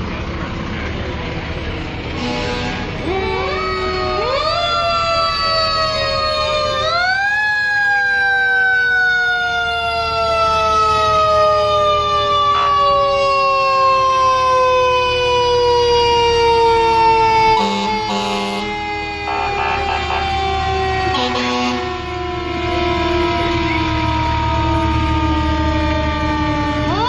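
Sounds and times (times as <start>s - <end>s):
fire truck siren winding: 2.9s - 27.0s.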